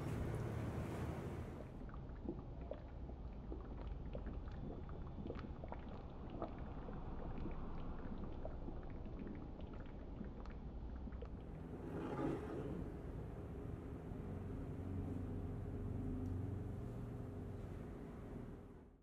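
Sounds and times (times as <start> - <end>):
thick sauce bubbling: 0.0 - 18.4
low steady rumble: 0.0 - 19.0.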